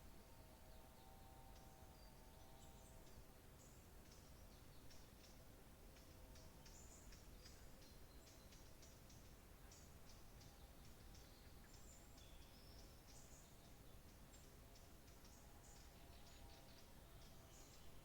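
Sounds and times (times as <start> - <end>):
faint birdsong: 0.0 - 18.0
low steady hiss: 0.0 - 18.0.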